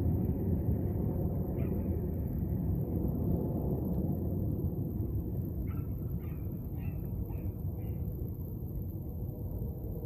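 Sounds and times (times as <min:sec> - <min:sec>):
distant jet engines rumbling: 0:00.0 - 0:10.0.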